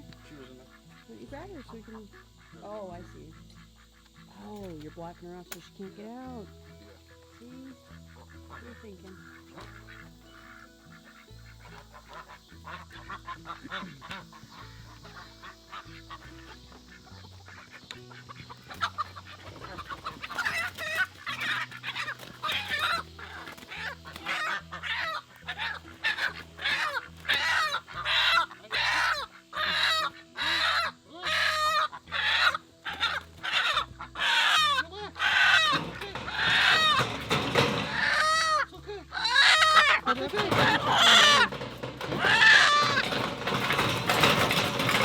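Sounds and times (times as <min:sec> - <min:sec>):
chickens calling loudly: 0:00.0 - 0:45.0.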